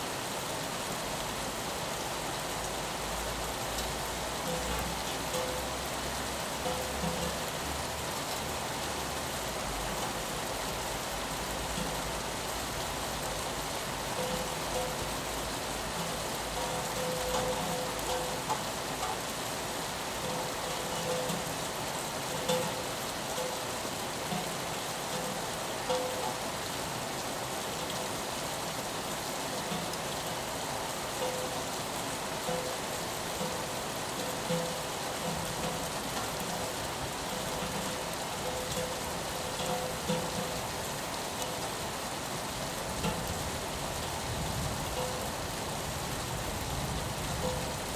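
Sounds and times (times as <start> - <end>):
rain on a window: 0.0 - 47.9
pitched water drips: 1.4 - 47.9.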